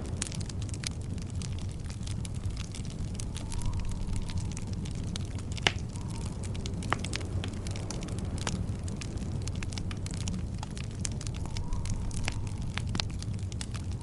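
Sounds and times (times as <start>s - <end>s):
fire crackling: 0.0s - 14.0s
low rumble of flames: 0.0s - 14.0s
sharp fire pops: 0.0s - 14.0s.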